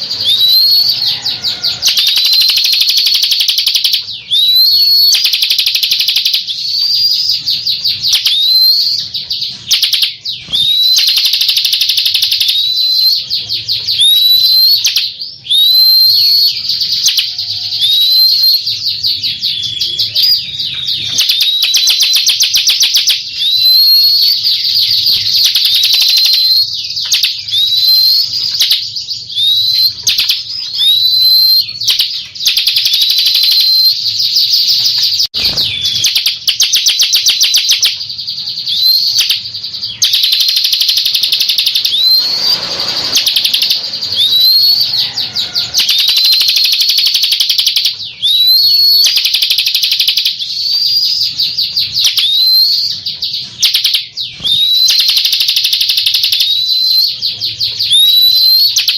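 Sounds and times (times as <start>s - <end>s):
bird buzzy trill: 0.0s - 58.9s
upslurred bird whistle: 0.0s - 58.9s.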